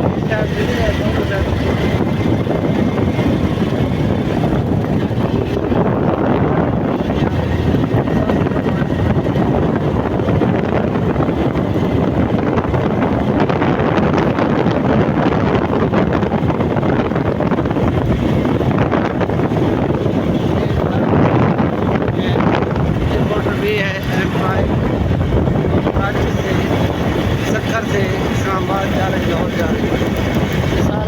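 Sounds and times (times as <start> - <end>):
vehicle driving on motorway: 0.0 - 31.0
wind buffeting microphone: 0.0 - 31.0.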